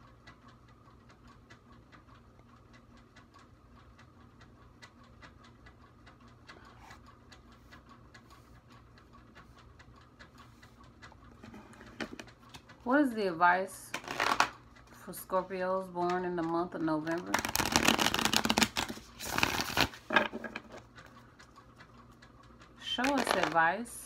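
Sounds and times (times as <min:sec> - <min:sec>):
low steady room hum: 0:00.0 - 0:24.0.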